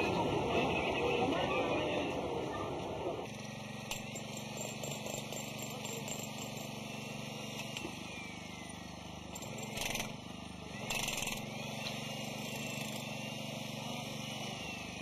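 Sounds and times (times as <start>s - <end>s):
rubble site background noise: 0.0s - 15.0s.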